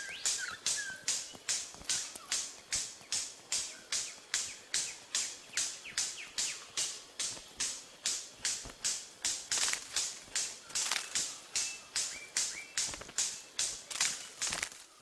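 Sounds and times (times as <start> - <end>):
descending whistled bird calls: 0.0 - 8.5, 10.0 - 15.0.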